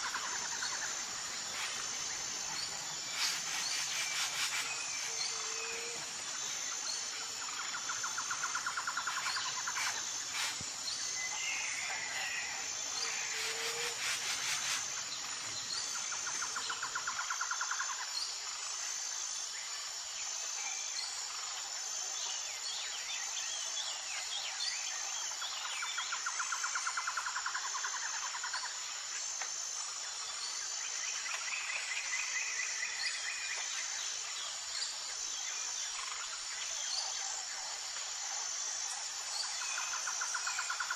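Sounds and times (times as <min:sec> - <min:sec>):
insects chirping: 0:00.0 - 0:40.9.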